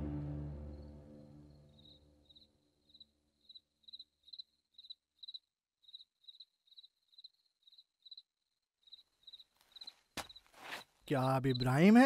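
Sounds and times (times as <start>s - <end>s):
cricket chirping: 0.7s - 12.0s.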